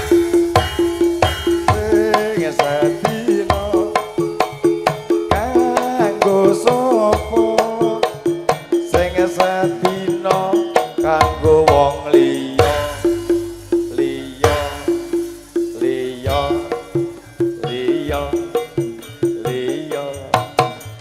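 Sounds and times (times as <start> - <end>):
gamelan music: 0.0 - 21.0.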